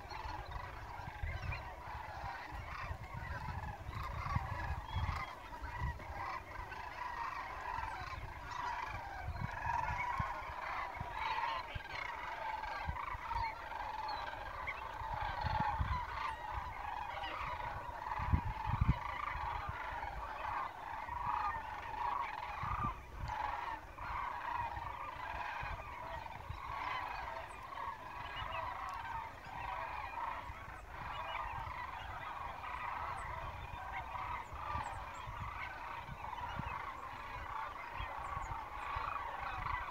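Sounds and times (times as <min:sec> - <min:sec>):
geese honking: 0:00.0 - 0:39.9
low rumbling wind gusts: 0:00.0 - 0:39.9.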